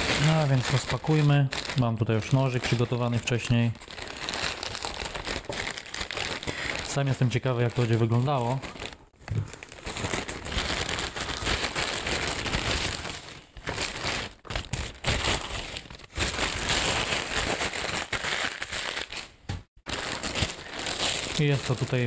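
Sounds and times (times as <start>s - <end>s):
plastic mailer bag crinkling: 0.0s - 19.2s, 19.9s - 22.0s.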